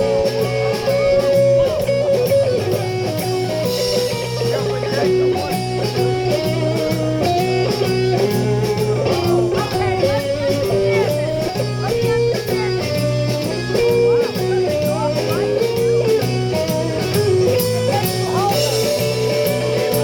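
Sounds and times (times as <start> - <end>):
blues band playing: 0.0 - 20.0
electric guitar lead lines: 0.0 - 20.0.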